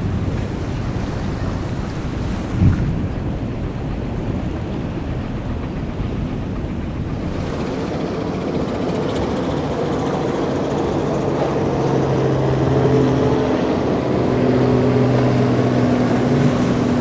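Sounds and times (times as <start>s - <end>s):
motorboat engine droning: 0.0s - 17.0s
water noise: 0.0s - 17.0s
wind: 0.0s - 17.0s.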